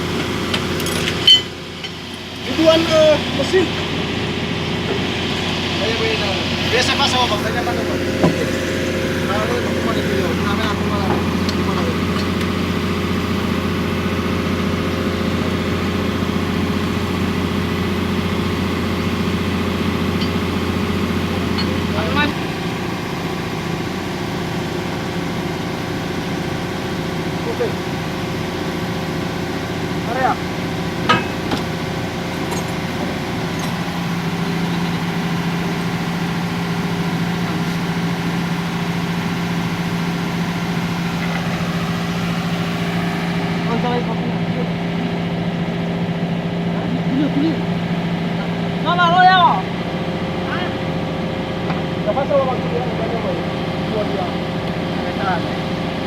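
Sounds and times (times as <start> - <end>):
heavy machine engine running: 0.0 - 56.0.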